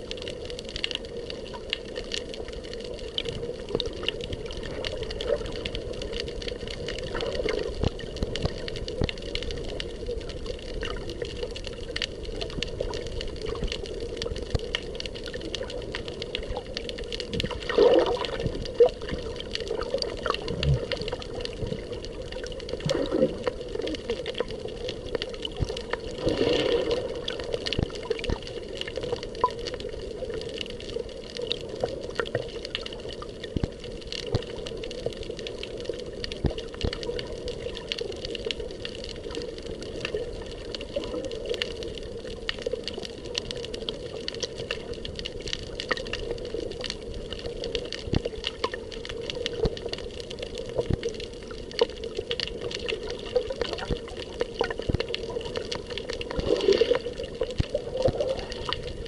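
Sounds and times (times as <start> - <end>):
underwater clicks and crackles: 0.0 - 59.0
underwater low rush: 0.0 - 59.0.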